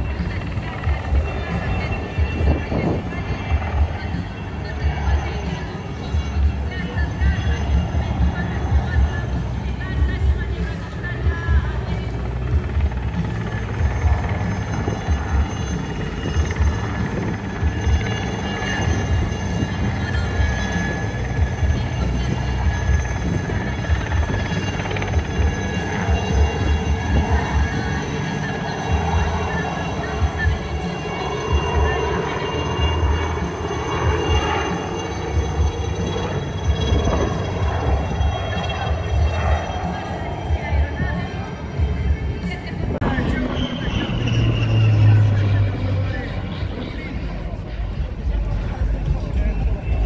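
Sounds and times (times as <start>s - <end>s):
helicopter rotor and turbine rumble: 0.0s - 50.0s
high-pitched turbine whine: 0.0s - 50.0s.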